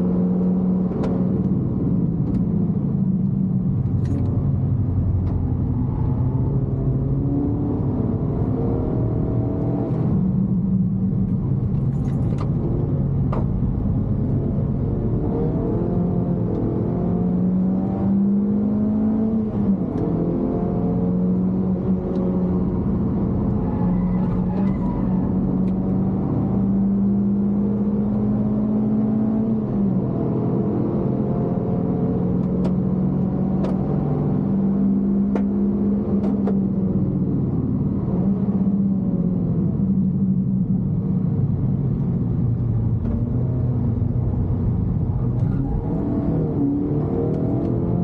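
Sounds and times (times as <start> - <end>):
car engine accelerating hard: 0.0 - 48.0.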